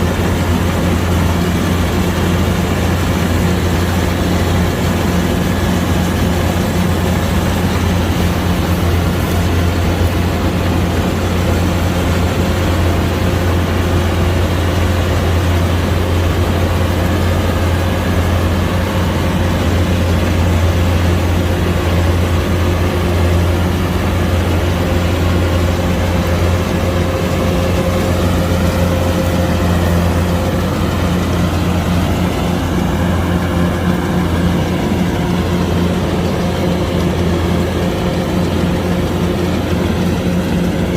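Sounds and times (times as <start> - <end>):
combine harvester engine droning: 0.0 - 40.9.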